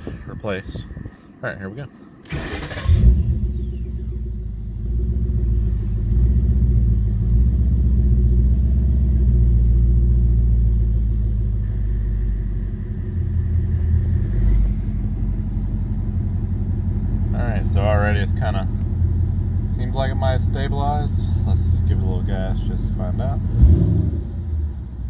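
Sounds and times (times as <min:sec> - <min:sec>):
engine idling: 0:02.0 - 0:25.0.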